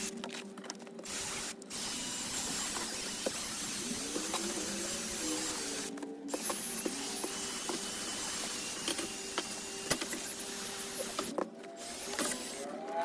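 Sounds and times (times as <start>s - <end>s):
cordless drill motor whirring: 1.0s - 12.6s.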